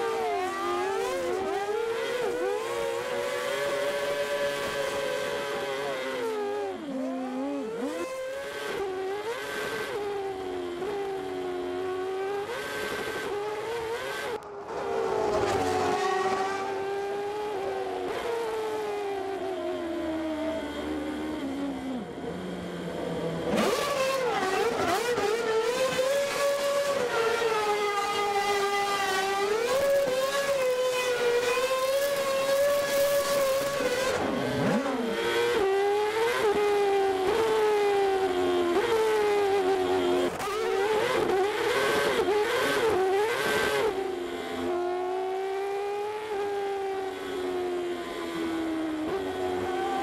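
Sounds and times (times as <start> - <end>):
race car engine revving: 0.1 - 50.0.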